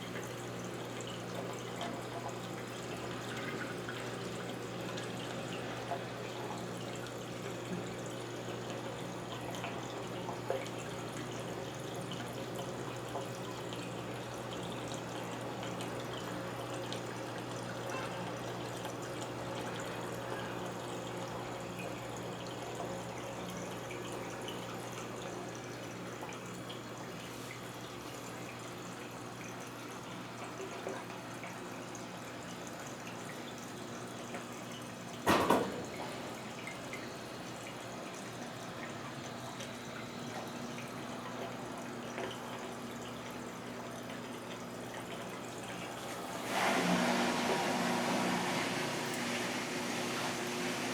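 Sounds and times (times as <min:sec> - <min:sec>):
washing machine hum: 0:00.0 - 0:50.9
water trickling in washing machine: 0:00.0 - 0:50.9.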